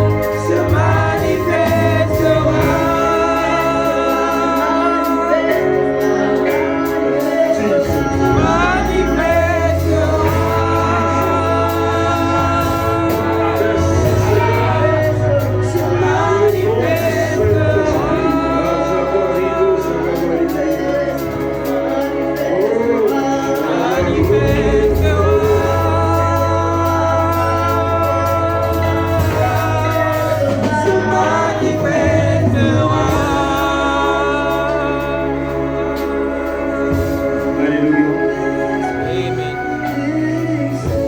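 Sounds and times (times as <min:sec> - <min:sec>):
bass notes: 0:00.0 - 0:41.0
gospel singing over held chords: 0:00.0 - 0:41.0.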